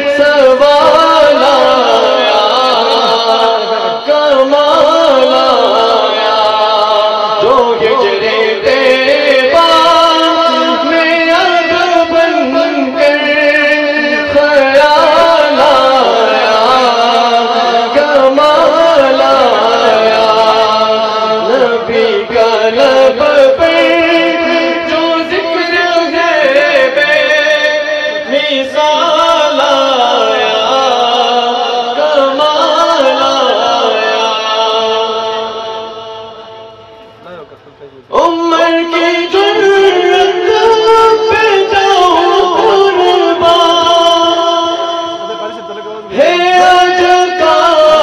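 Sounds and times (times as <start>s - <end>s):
man singing into a microphone: 0.0s - 48.0s.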